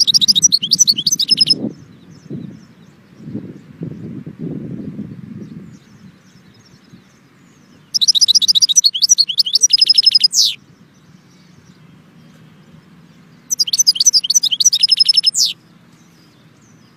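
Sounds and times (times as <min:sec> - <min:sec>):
goldfinch singing: 0:00.0 - 0:03.0, 0:05.7 - 0:16.9.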